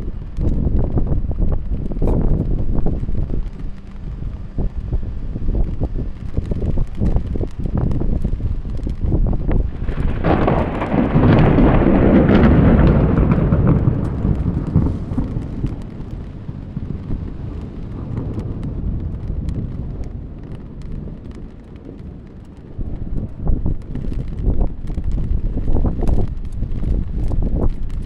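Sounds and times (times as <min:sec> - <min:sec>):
steady rain: 0:00.0 - 0:28.0
thunder rumble: 0:00.0 - 0:28.0
wind: 0:00.0 - 0:28.0.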